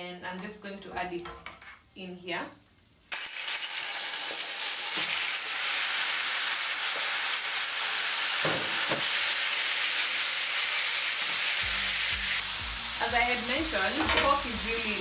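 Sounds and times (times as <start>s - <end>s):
pork sizzling in a pan: 2.9s - 15.0s.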